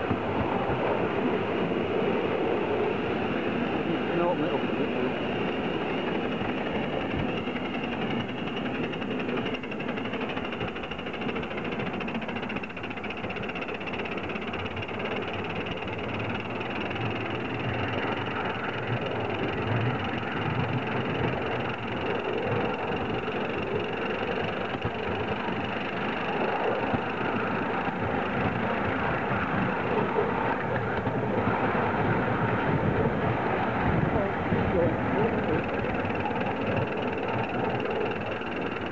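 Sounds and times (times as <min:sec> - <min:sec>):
model steam locomotive running: 0:00.0 - 0:38.9.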